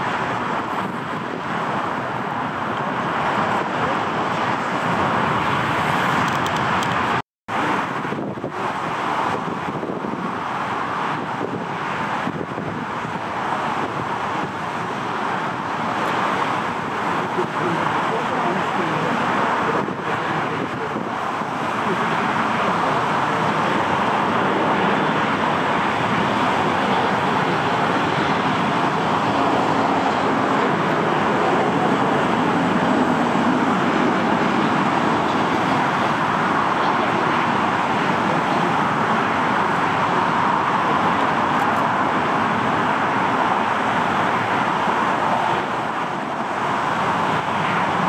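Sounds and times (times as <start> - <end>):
jet engines at taxi power: 0.0 - 48.0.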